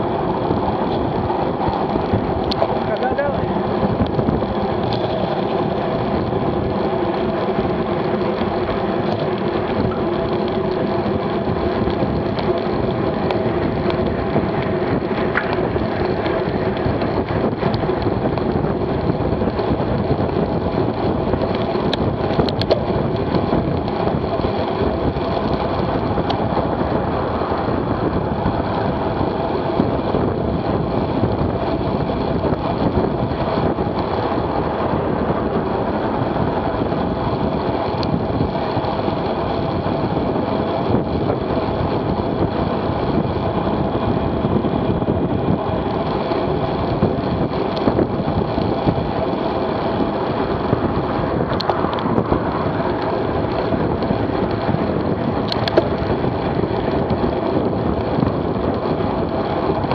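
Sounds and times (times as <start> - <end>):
tyre and road noise: 0.0 - 59.9
wind rushing over microphone: 0.0 - 59.9.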